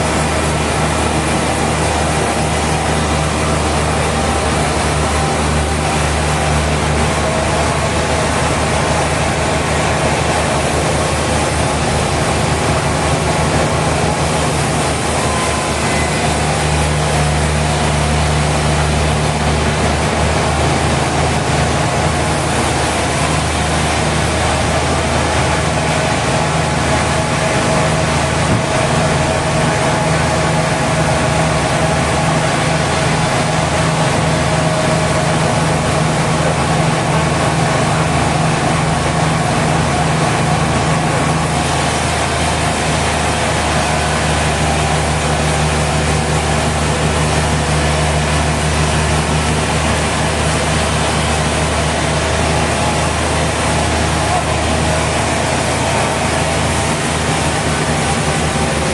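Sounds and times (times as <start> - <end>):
low engine drone: 0.0 - 58.9
saw noise: 0.0 - 58.9.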